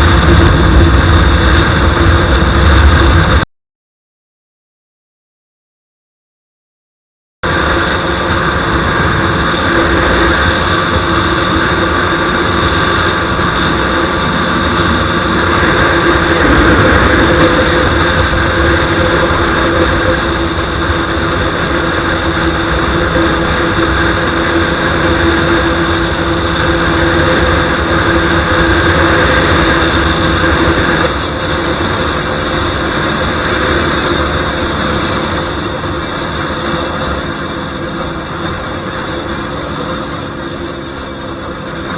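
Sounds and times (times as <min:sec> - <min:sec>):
motorcycle engine at high speed: 0:00.0 - 0:03.4, 0:07.4 - 0:41.9
wind rushing over microphone: 0:00.0 - 0:03.4, 0:07.5 - 0:24.4, 0:27.6 - 0:41.9.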